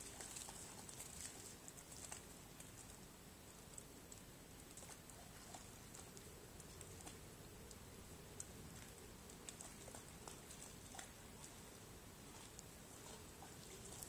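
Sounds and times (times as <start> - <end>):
faint ticks: 0.0 - 14.0.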